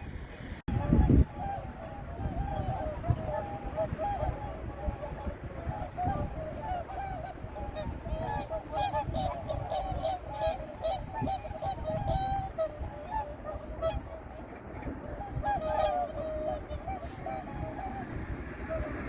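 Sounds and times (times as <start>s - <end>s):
swans honking: 0.7s - 19.0s.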